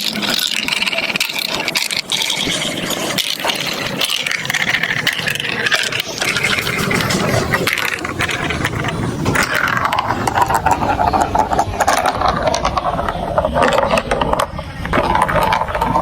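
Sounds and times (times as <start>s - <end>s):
marbles rattling along plastic tracks: 0.0s - 16.0s.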